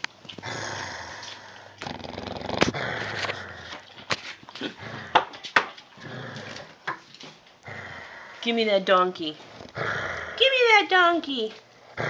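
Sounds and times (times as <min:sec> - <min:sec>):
puppies growling and snuffling: 0:00.0 - 0:08.6, 0:09.4 - 0:10.7, 0:11.7 - 0:12.0.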